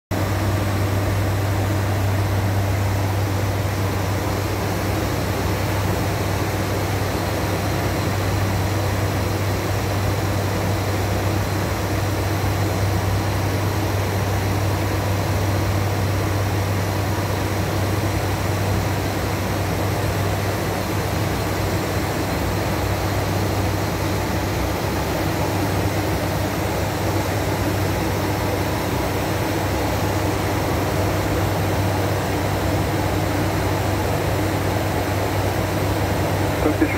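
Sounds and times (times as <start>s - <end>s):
turboprop engines droning: 0.1s - 36.9s.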